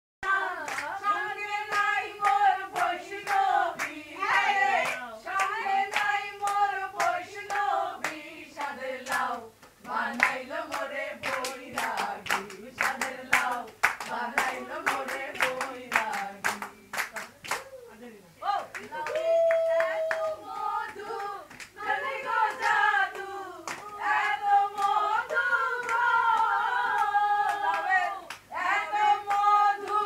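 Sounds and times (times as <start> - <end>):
group singing: 0.2 - 17.2, 19.0 - 30.0
rhythmic hand clapping: 0.2 - 17.8, 18.7 - 30.0.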